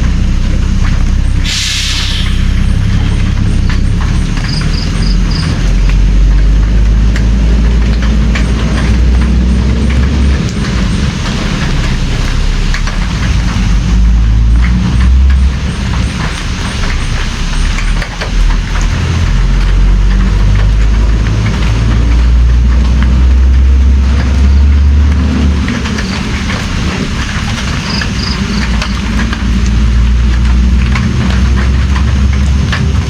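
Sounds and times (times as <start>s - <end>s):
deep low rumble: 0.0s - 33.0s
heavy rain pattering: 0.0s - 33.0s.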